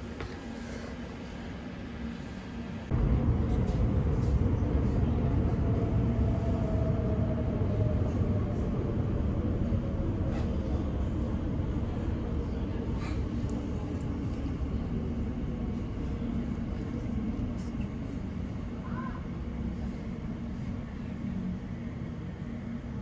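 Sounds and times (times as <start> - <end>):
train rumble in tunnel: 0.0 - 23.0.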